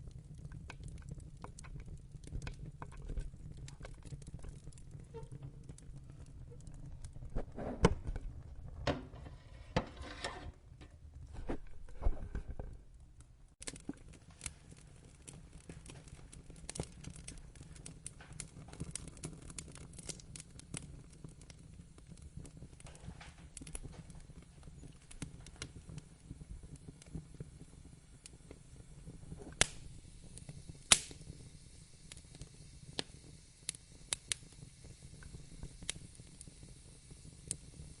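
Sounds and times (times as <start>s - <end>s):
burning logs crackling and popping: 0.0s - 38.0s
fire rumbling in fireplace: 0.0s - 38.0s.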